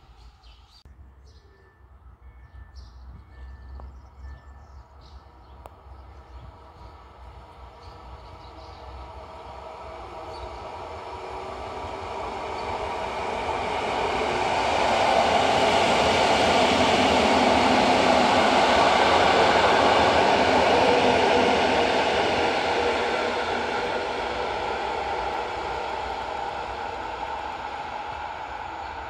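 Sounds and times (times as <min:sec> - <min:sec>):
train wheels on rails: 0:02.2 - 0:29.0.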